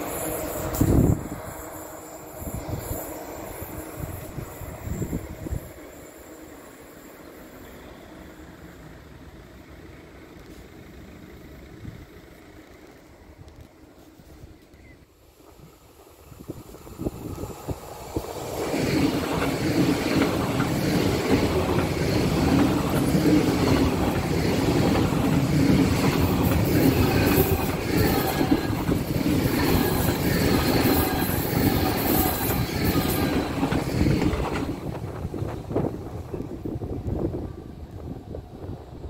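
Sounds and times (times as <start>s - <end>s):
high-speed train passing: 0.0s - 39.0s.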